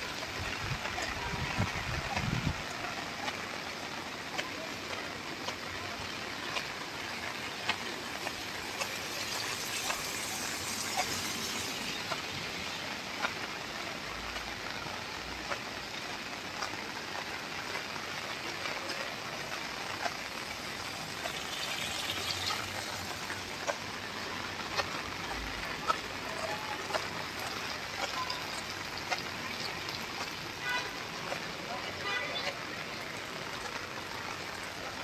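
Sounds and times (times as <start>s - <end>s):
rain drop taps: 0.0s - 35.0s
steady rain hiss: 0.0s - 35.0s.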